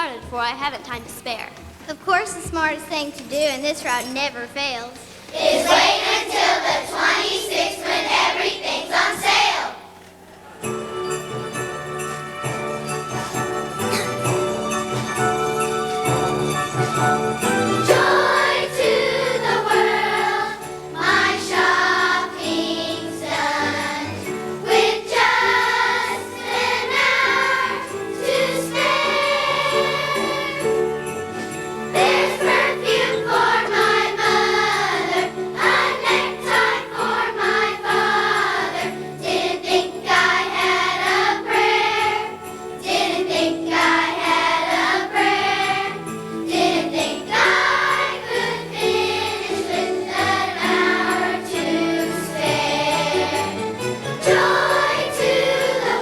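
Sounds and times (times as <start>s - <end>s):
jingle bells shaken: 2.9s - 4.7s, 10.6s - 56.0s
children's choir singing: 5.1s - 56.0s.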